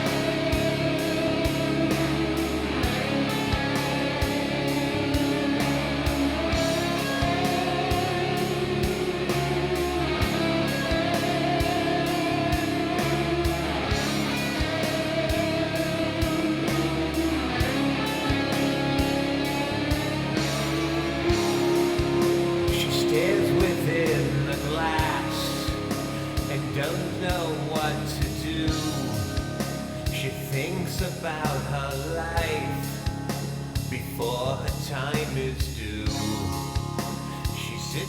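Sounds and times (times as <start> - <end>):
electric guitars: 0.0 - 38.0
steady drum beat: 0.0 - 38.0.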